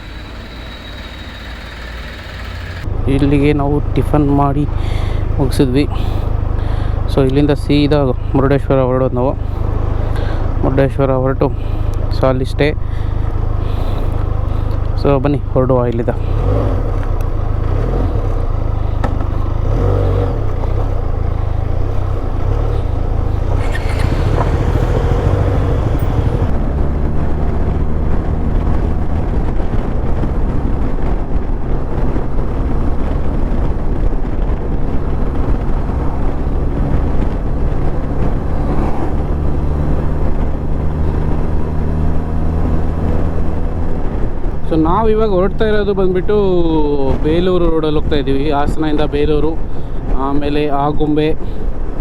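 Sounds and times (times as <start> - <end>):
motorcycle engine running: 0.0 - 7.9, 12.8 - 52.0.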